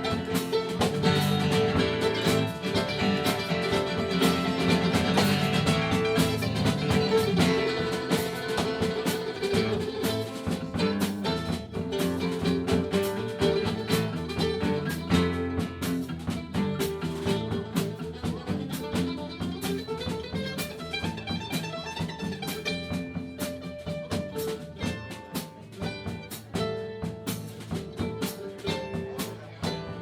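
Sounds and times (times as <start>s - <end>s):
guitar: 0.0s - 30.0s
steady drum beat: 0.0s - 30.0s.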